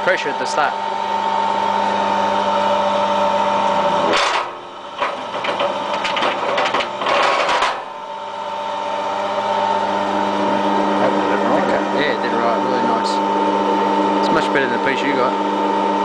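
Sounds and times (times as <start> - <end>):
wire stripping machine humming: 0.0 - 16.0.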